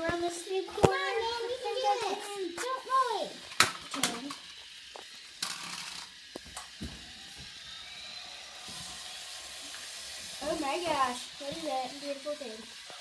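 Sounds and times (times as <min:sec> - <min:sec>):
toy train motor humming: 0:00.0 - 0:13.0.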